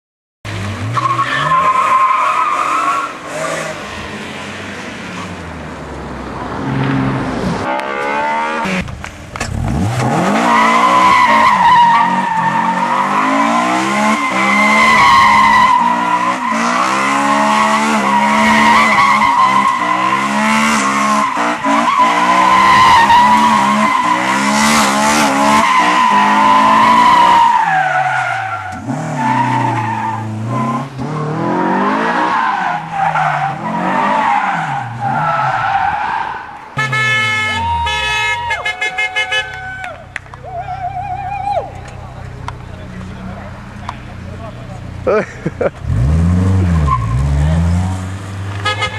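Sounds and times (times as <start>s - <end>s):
tyres squealing on asphalt: 0.5s - 5.6s, 9.7s - 48.9s
car engine revving: 0.5s - 37.8s, 41.8s - 48.9s.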